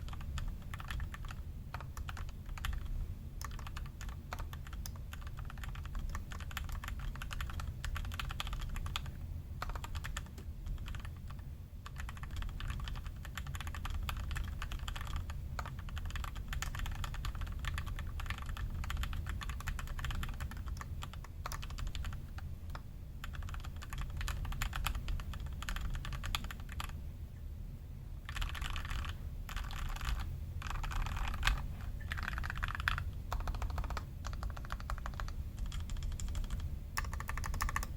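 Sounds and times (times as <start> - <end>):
mechanical keyboard typing: 0.0 - 27.0, 28.2 - 37.9.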